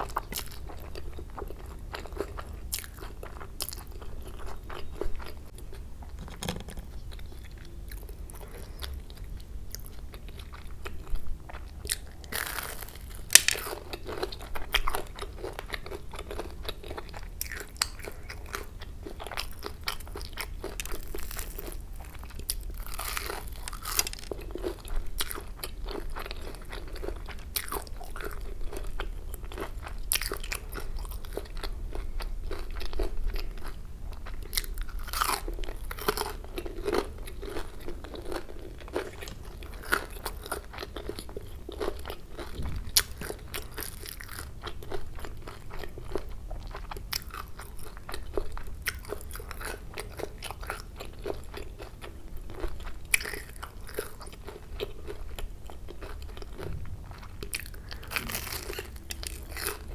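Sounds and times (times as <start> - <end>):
crunching and chewing fried food: 0.0 - 59.9.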